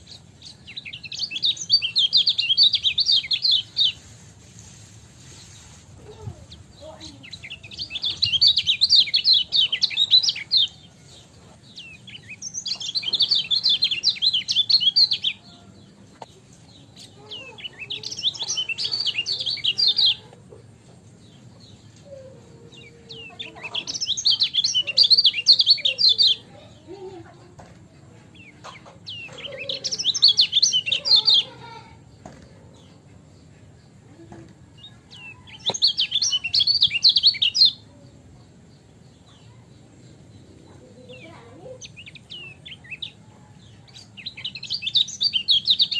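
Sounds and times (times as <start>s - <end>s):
bird high rapid chirping: 0.0s - 15.4s, 16.2s - 20.4s, 21.4s - 26.8s, 28.3s - 34.1s, 34.7s - 37.9s, 38.8s - 43.3s, 43.9s - 45.9s.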